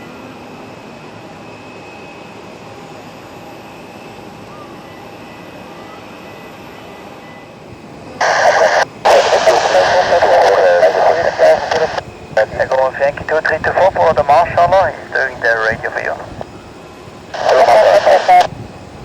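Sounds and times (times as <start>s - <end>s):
aircraft engines running: 0.1s - 19.0s.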